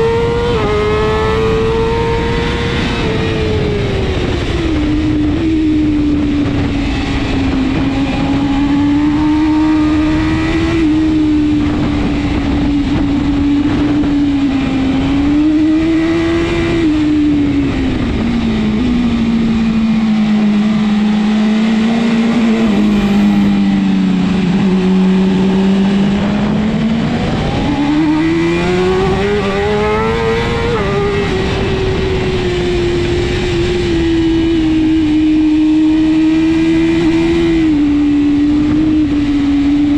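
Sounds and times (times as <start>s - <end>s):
motorcycle engine at racing speed: 0.0s - 39.9s
steady rushing noise: 0.0s - 39.9s.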